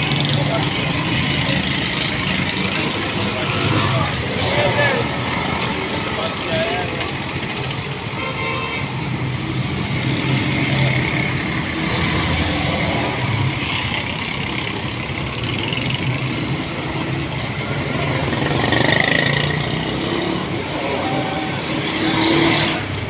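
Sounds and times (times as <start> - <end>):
vehicle engines running: 0.0 - 8.2, 9.0 - 23.0.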